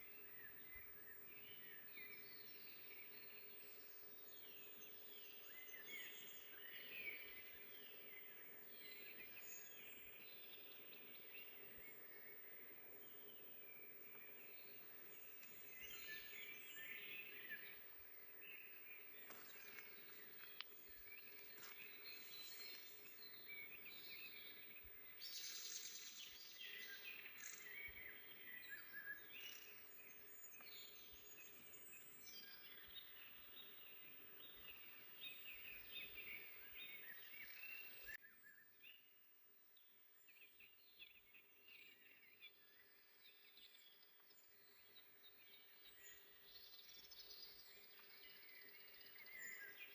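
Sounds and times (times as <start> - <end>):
songbirds singing and chirping: 0.0 - 49.9.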